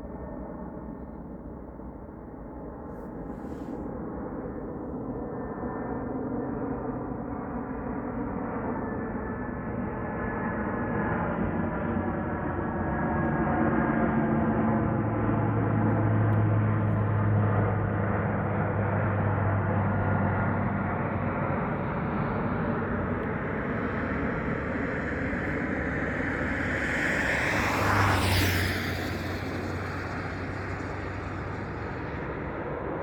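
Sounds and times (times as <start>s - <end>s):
airliner engine drone: 0.0s - 33.0s.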